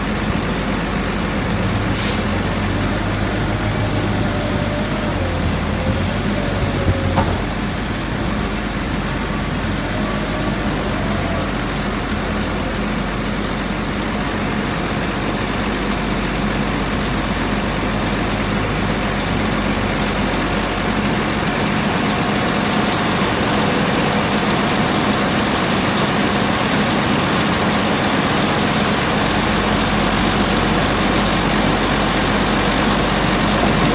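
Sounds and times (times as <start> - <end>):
diesel engine running under load: 0.0 - 33.9.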